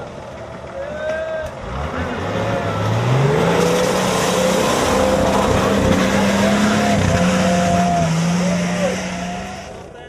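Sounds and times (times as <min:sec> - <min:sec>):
engine running at high revs: 0:01.6 - 0:09.8.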